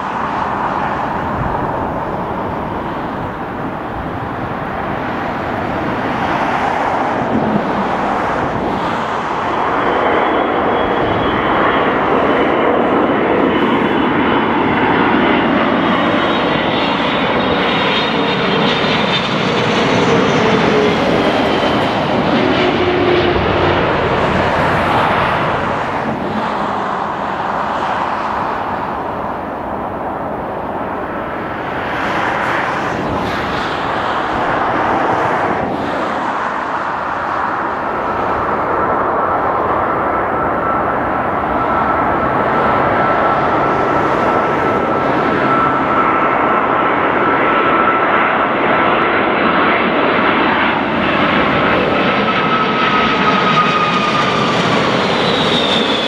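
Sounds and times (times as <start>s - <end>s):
jet plane passing overhead: 0.0s - 56.0s.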